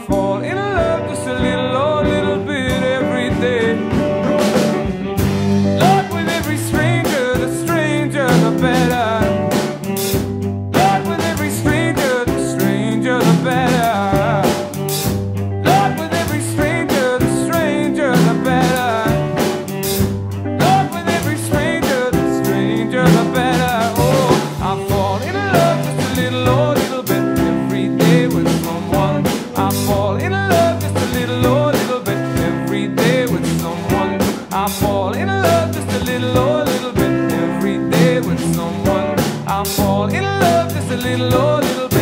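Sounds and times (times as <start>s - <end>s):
man singing long notes: 0.0s - 4.5s, 5.7s - 9.8s, 10.8s - 15.0s, 15.6s - 19.8s, 20.6s - 42.0s
drum kit beat: 0.0s - 42.0s
strummed guitar: 0.0s - 42.0s.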